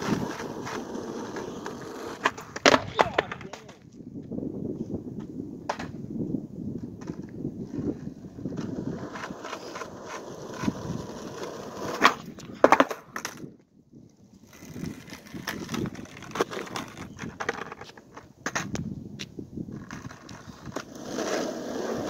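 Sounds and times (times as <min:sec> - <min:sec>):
skateboard cracking on pavement: 0:00.0 - 0:04.3, 0:05.6 - 0:06.0, 0:06.7 - 0:22.0
skateboard wheels rolling on asphalt: 0:00.0 - 0:22.0.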